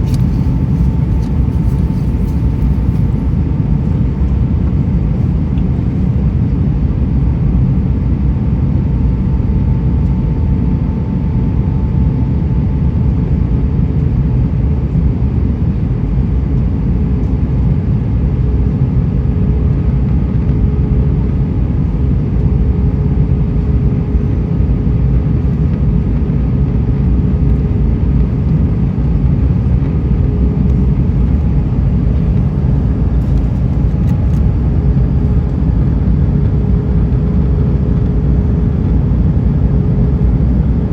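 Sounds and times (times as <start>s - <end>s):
aircraft engines and rushing air: 0.0s - 40.9s
faint steady hum: 0.0s - 40.9s.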